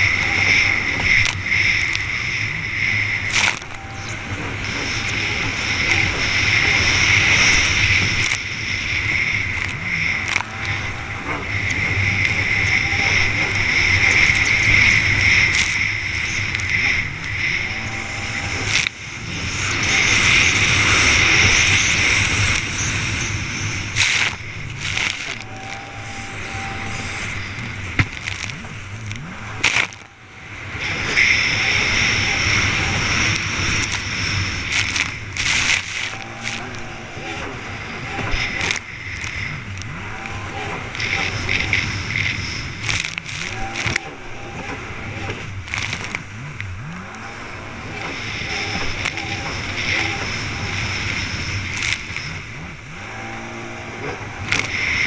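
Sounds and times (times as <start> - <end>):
jet ski engine revving: 0.0 - 55.0
water spray hissing: 0.0 - 55.0.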